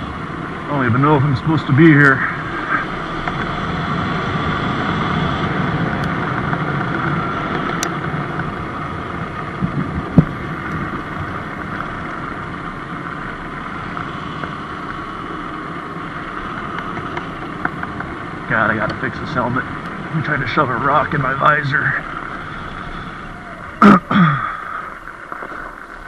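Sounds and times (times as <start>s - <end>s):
electric dirt bike drivetrain: 0.0s - 26.0s
wind on microphone: 0.0s - 26.0s.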